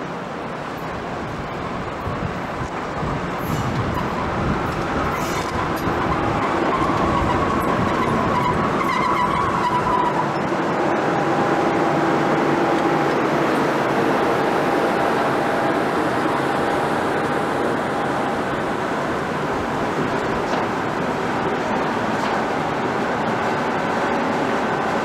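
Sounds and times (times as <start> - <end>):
electric locomotive rushing noise: 0.0 - 25.0.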